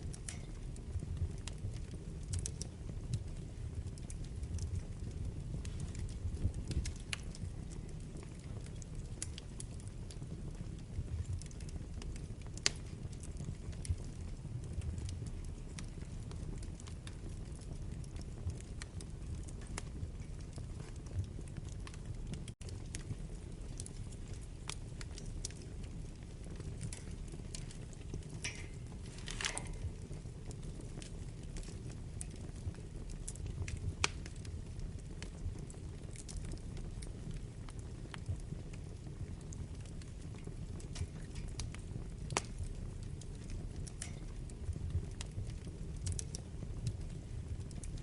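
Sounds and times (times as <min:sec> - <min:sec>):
fire flames rumbling: 0:00.0 - 0:48.0
wood fire crackling and popping: 0:00.0 - 0:48.0.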